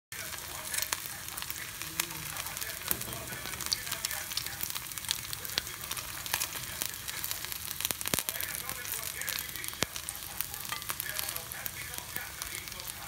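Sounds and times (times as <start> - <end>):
food sizzling in oil: 0.1 - 13.0
oil crackling and popping: 0.1 - 13.0.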